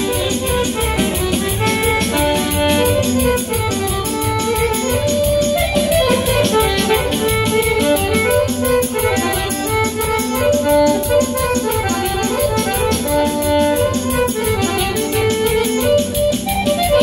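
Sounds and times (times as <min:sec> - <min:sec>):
live band playing folk dance music: 0:00.0 - 0:17.0.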